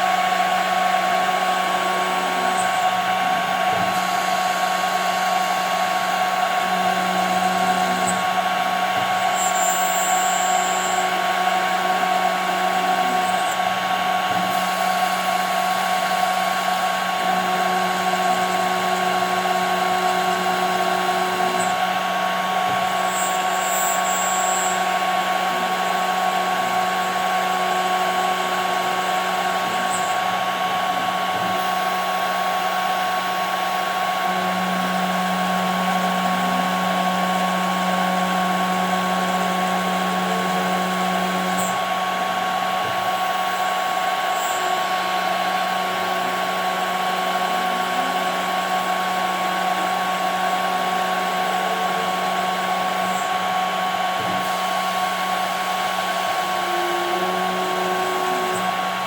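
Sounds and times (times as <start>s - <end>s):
cnc router spindle whine: 0.0s - 59.0s.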